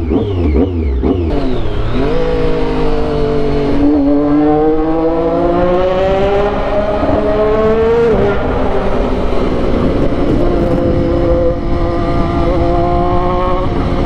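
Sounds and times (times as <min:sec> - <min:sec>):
motorcycle engine revving in tunnel: 0:00.0 - 0:14.0.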